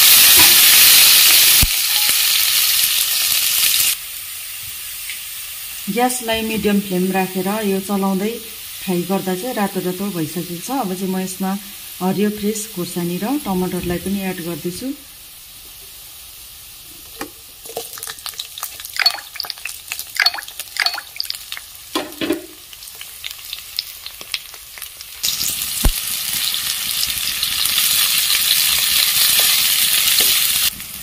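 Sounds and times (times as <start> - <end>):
loud steady sizzle: 0.0 - 31.0
spices frying in oil: 0.0 - 31.0.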